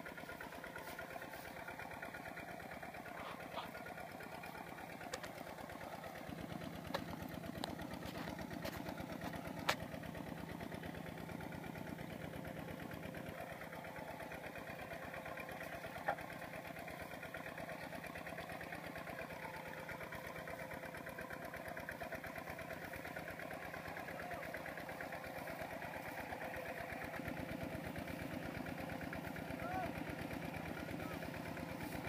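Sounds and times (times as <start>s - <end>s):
tractor diesel engine chugging: 0.0s - 32.0s.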